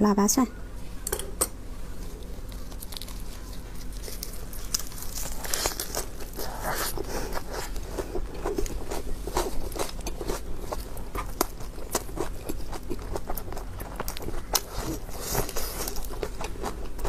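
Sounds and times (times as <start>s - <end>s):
lettuce crunching when bitten: 2.0s - 17.0s
wet chewing clicks: 2.2s - 17.0s.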